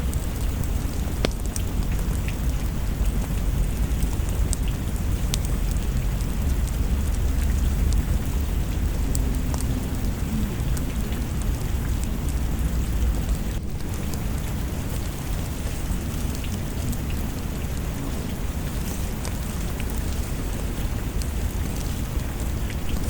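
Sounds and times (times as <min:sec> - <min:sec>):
distant thunder rumble: 0:00.0 - 0:23.0
steady rain: 0:00.0 - 0:23.0
wood fire crackles: 0:00.0 - 0:23.0.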